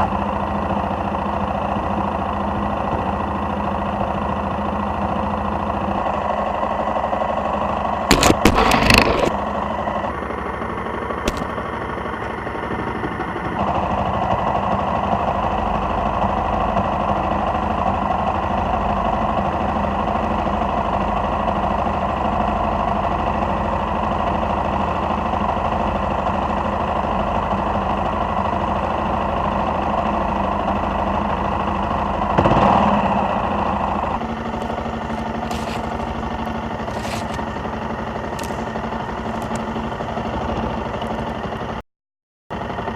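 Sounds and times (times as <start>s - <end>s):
motorcycle engine running: 0.0s - 41.8s.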